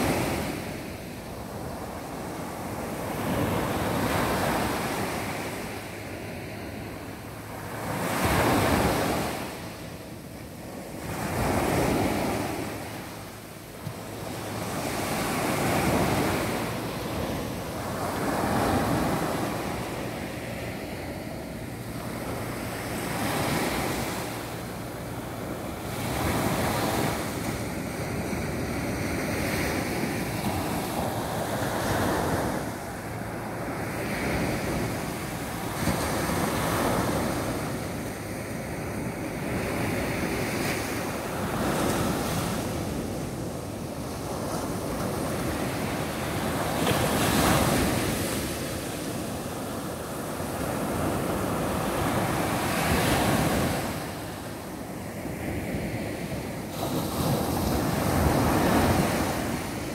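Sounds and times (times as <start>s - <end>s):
small waves breaking on beach: 0.0s - 59.9s.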